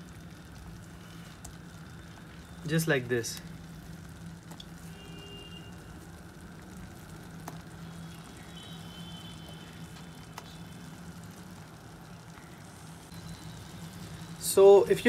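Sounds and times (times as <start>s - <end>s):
gravy simmering in a pan: 0.0s - 15.0s
low steady hum: 0.0s - 15.0s.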